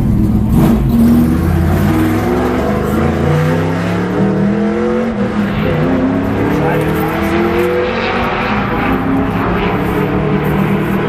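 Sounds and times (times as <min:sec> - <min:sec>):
car engines idling and revving: 0:00.0 - 0:11.0.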